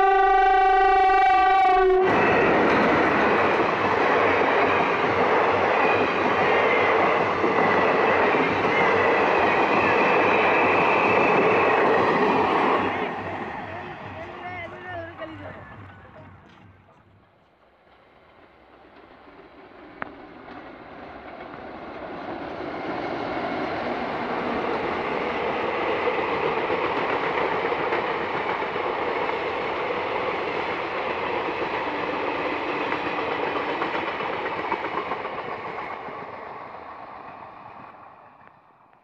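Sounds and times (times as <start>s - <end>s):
diesel locomotive engine: 0.0s - 39.0s
train wheels clattering on rails: 2.1s - 38.6s.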